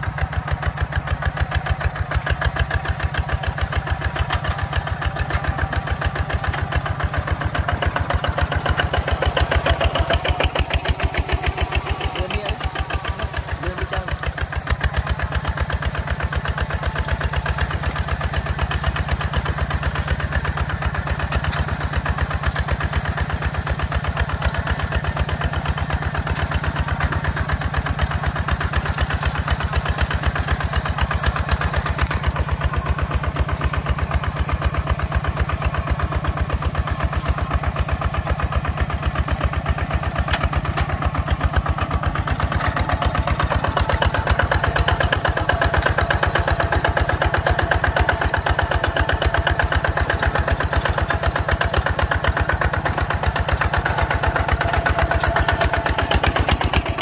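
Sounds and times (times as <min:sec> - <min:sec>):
tractor engine chugging: 0:00.0 - 0:57.0.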